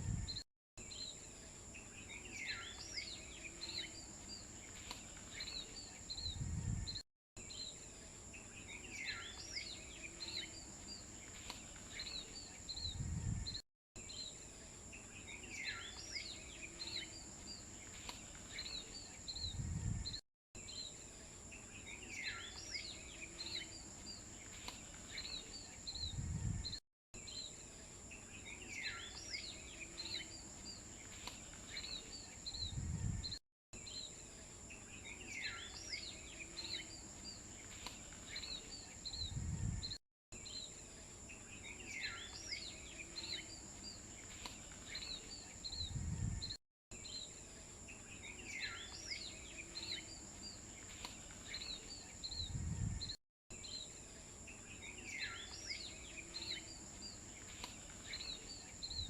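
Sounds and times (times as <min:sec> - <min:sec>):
birds chirping: 0:00.1 - 0:59.0.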